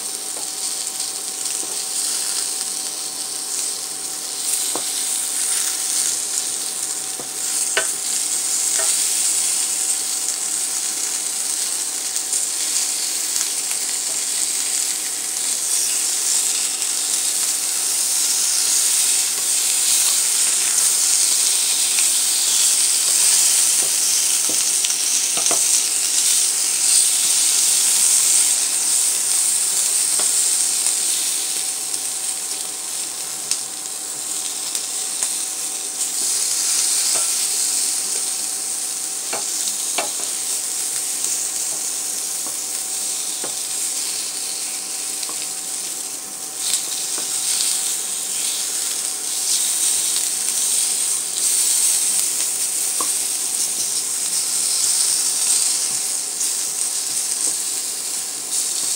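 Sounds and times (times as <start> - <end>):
vegetables sizzling in frying pan: 0.0 - 58.9.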